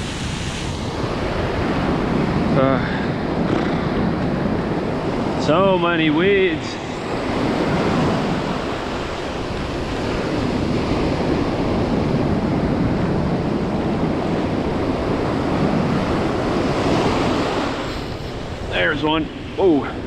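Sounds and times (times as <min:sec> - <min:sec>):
surf breaking on a beach: 0:00.0 - 0:20.0
wind buffeting the microphone: 0:00.0 - 0:20.0.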